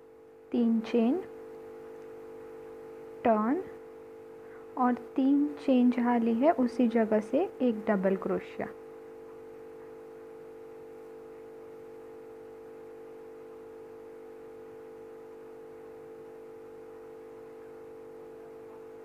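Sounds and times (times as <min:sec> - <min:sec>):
steady hum of held tones: 0:00.0 - 0:19.0.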